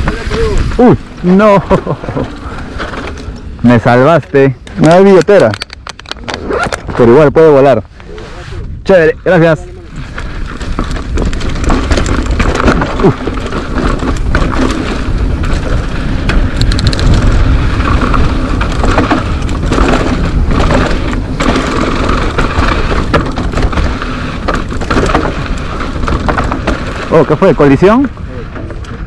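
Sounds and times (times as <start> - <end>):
bike chain and frame rattling: 0.0 - 7.3, 9.4 - 29.0
tyres on dirt: 0.0 - 29.0
wind rumble on microphone: 0.0 - 29.0.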